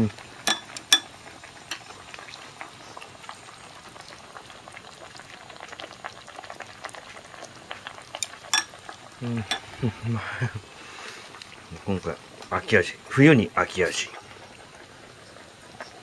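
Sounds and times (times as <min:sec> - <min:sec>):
broth bubbling and crackling: 0:00.0 - 0:16.0.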